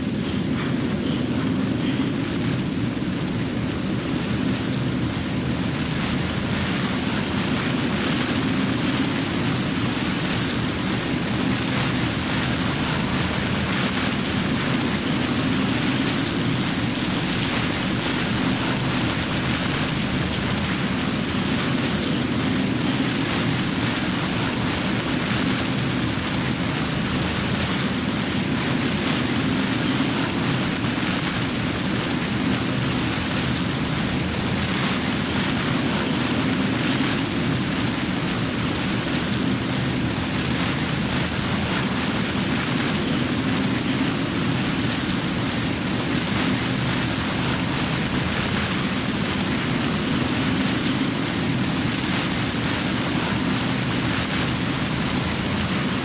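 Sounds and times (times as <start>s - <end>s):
storm rushing hiss: 0.0s - 56.0s.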